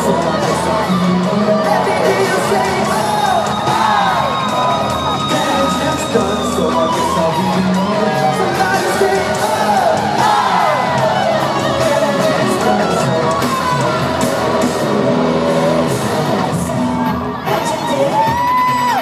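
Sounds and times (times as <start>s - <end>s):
crowd shouting and whooping: 0.0s - 19.0s
loud live concert music: 0.0s - 19.0s
person singing: 0.0s - 19.0s.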